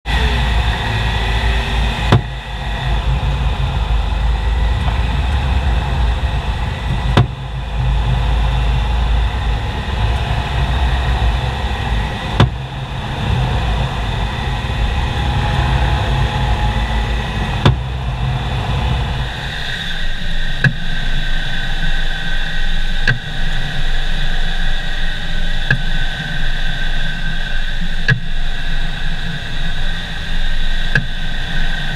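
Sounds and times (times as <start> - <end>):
car running noise: 0.0 - 31.9.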